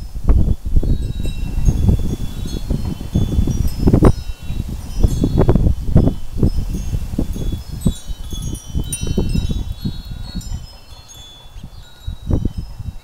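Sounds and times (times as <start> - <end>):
wind buffeting microphone: 0.0 - 13.0
wind chimes ringing: 0.0 - 13.0.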